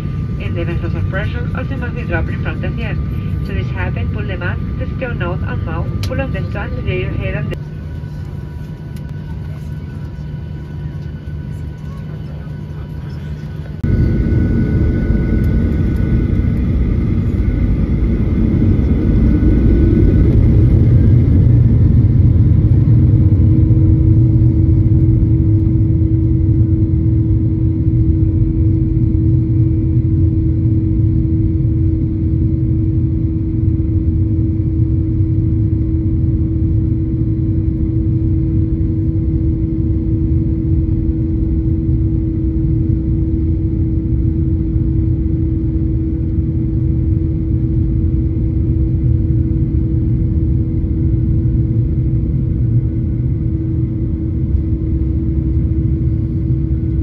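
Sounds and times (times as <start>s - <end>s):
airplane cabin low rumble: 0.0s - 57.0s
steady hum: 0.0s - 57.0s.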